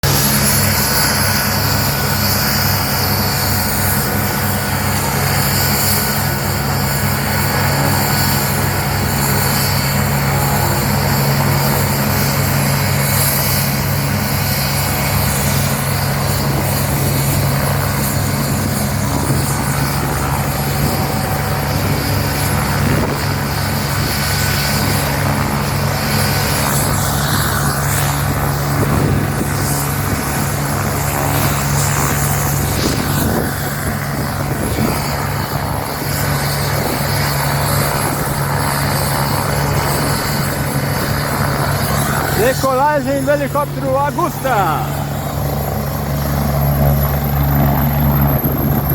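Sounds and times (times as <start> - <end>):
helicopter rotor beat: 0.0 - 48.9
turbine whine: 0.0 - 48.9.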